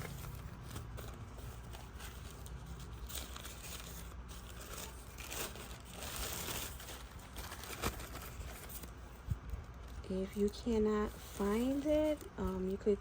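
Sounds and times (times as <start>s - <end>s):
paper napkin crinkling: 0.0s - 12.8s.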